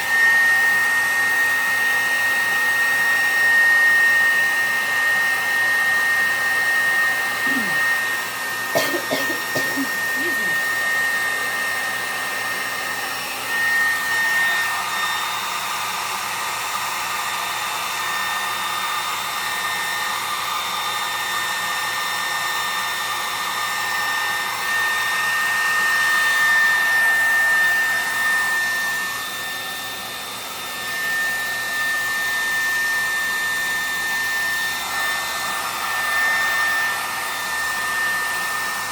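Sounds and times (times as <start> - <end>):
hair dryer blowing with high whine: 0.0 - 38.9.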